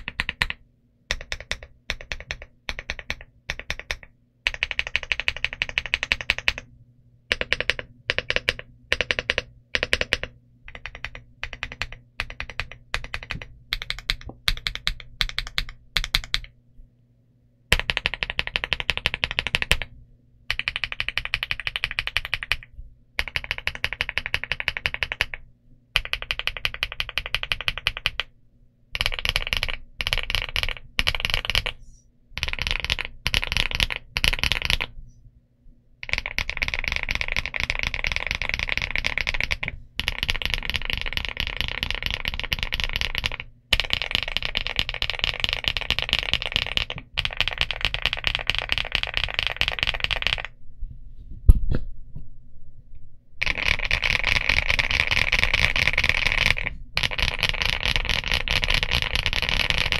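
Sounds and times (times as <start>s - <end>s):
mechanical keyboard typing: 0.0s - 6.7s, 7.3s - 16.5s, 17.7s - 19.9s, 20.5s - 25.4s, 26.0s - 28.3s, 29.0s - 31.8s, 32.4s - 34.9s, 36.0s - 50.6s, 53.4s - 59.9s.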